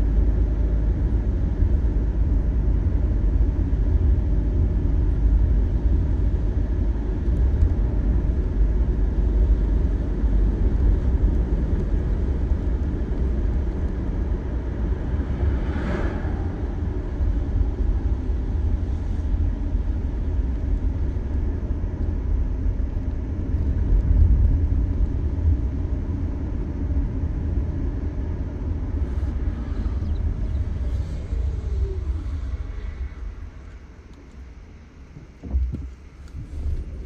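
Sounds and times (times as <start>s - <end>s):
tyre and wind road noise: 0.0s - 37.0s.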